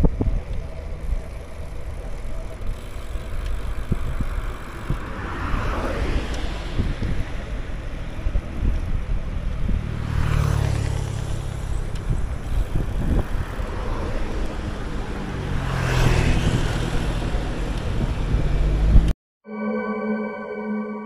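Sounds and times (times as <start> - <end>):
wind rumbling on microphone: 0.0 - 19.1
road and traffic noise: 0.0 - 19.2.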